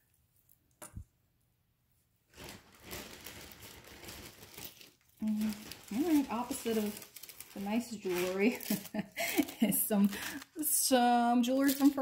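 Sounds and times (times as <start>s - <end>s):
packaging rustling and crinkling: 2.3s - 12.0s.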